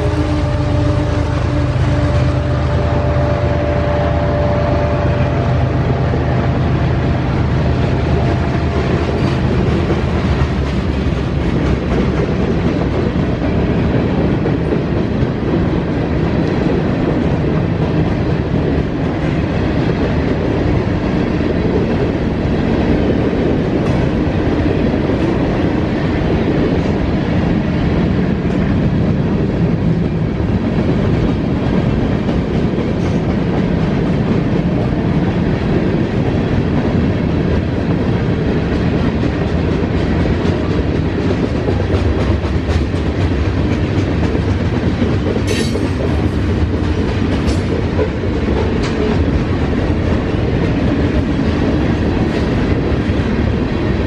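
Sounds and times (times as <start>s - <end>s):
freight train rumble: 0.0s - 54.0s
wheels clickety-clack over joints: 7.3s - 27.1s, 28.3s - 54.0s.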